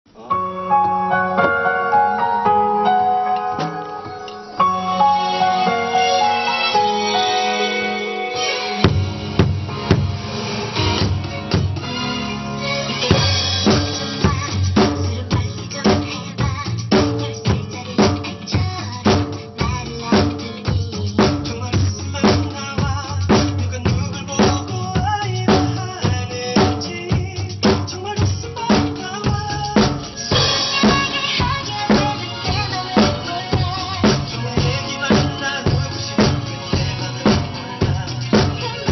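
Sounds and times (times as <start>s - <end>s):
pop song backing track: 0.1s - 38.9s
drum kit pop groove: 0.7s - 38.9s.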